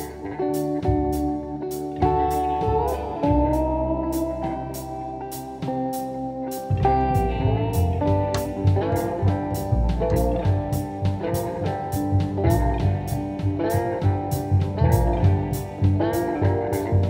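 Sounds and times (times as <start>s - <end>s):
guitar music with drum beat: 0.0s - 17.0s.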